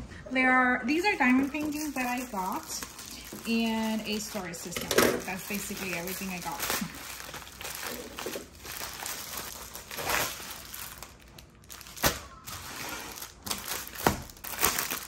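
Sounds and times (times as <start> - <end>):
plastic packaging crinkling: 1.1 - 15.0.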